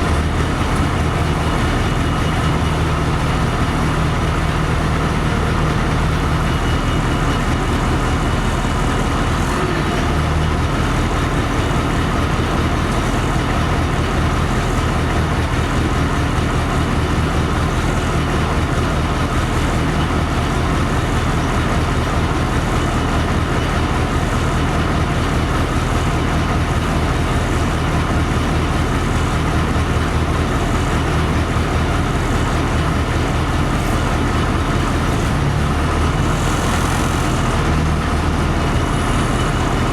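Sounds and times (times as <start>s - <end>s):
bus engine running: 0.0s - 39.9s
cabin and road noise: 0.0s - 39.9s.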